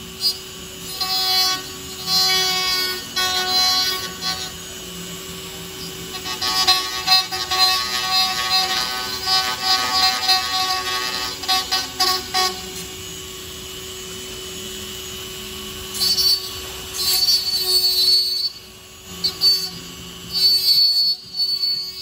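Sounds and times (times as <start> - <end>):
rotary tool whining: 0.0 - 22.0.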